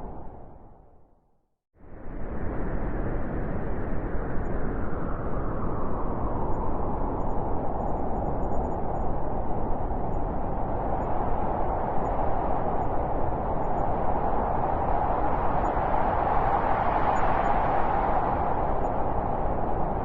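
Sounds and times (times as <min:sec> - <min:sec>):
howling blizzard wind: 0:00.0 - 0:01.0, 0:01.8 - 0:20.0.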